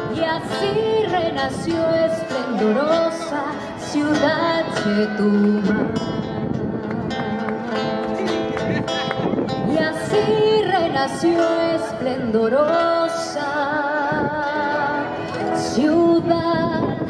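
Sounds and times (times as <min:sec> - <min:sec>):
woman singing a slow song: 0:00.0 - 0:06.4, 0:09.6 - 0:17.0
plucked acoustic guitar: 0:00.0 - 0:17.0.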